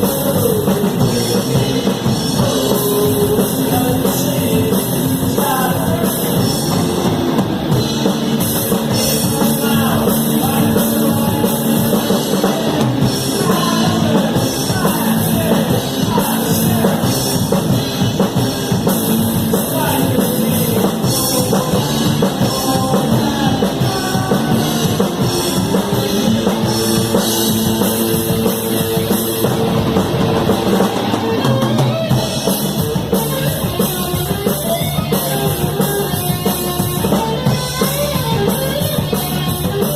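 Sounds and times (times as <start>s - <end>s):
drum kit: 0.0s - 39.9s
rock band playing live: 0.0s - 39.9s.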